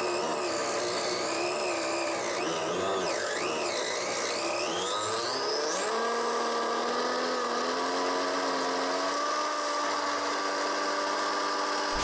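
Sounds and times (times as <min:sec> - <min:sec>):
table saw motor whine: 0:00.0 - 0:12.0.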